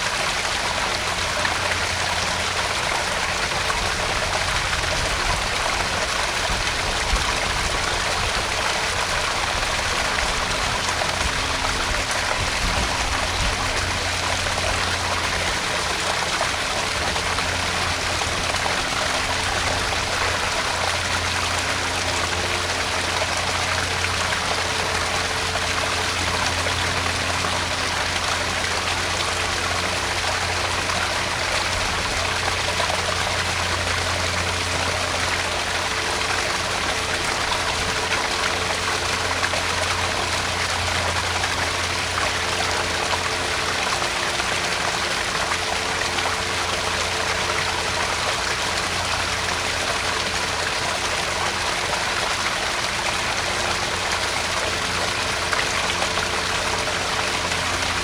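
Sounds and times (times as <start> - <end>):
waterfall splashing into pond: 0.0 - 58.0.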